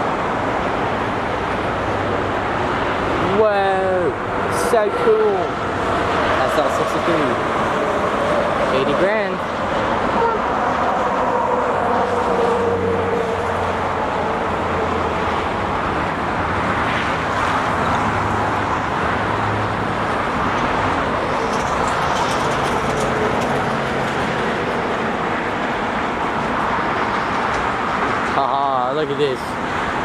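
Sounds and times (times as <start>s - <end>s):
freeway traffic noise: 0.0s - 30.0s.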